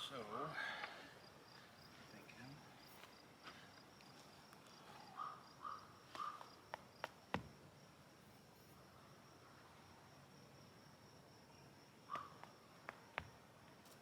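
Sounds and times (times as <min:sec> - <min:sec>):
insect hum: 0:00.0 - 0:14.0.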